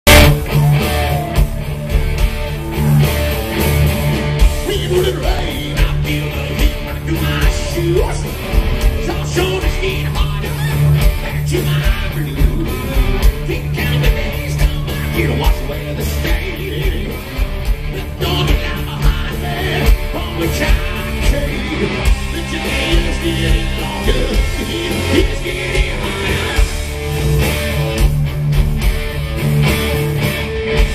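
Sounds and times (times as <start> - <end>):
live hard rock band: 0.0 - 30.9.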